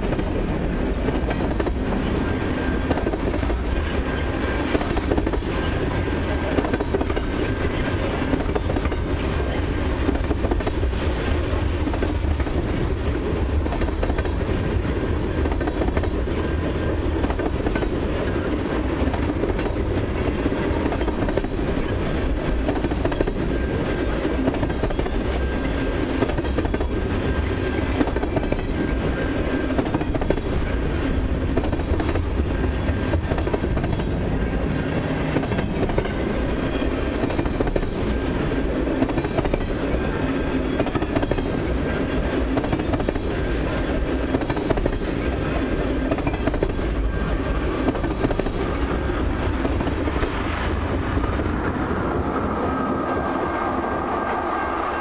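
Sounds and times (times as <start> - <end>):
freight train rolling past: 0.0 - 55.0
wheels clickety-clack on rails: 0.0 - 55.0.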